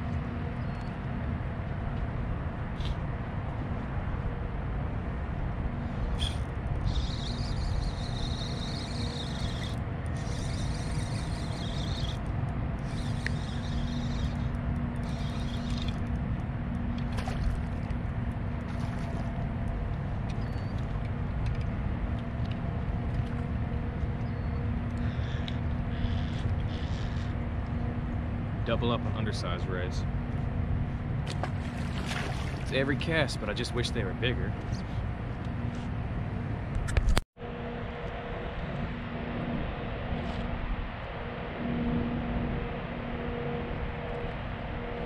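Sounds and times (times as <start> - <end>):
faint boat motor hum: 0.0 - 45.0.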